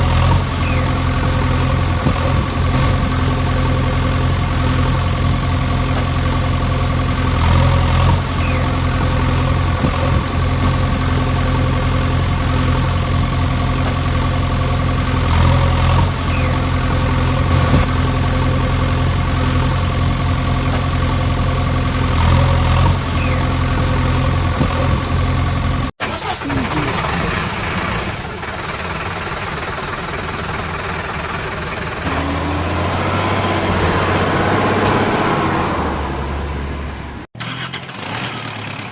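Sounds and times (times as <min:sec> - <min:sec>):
heavy engine idling: 0:00.0 - 0:33.2
noisier engine running: 0:00.0 - 0:38.9.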